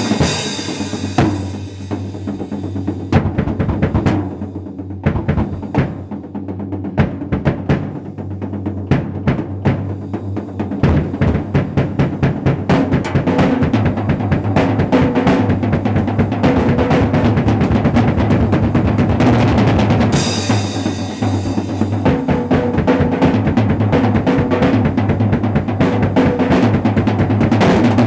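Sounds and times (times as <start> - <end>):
drum kit solo: 0.0 - 28.0.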